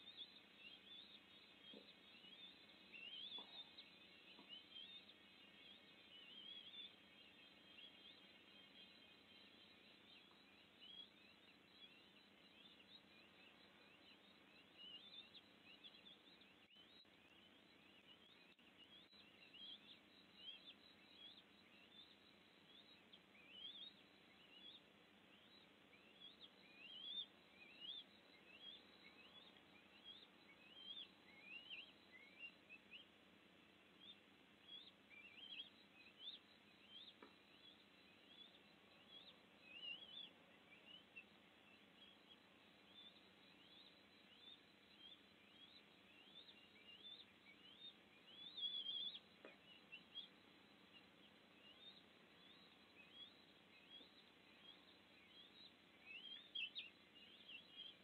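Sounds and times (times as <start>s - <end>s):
low steady hiss: 0.0s - 58.0s.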